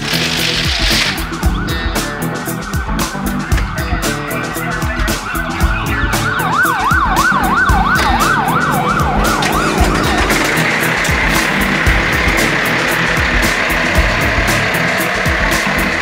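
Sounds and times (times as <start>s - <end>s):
background music with steady beat: 0.0s - 16.0s
siren yelping: 0.4s - 15.9s.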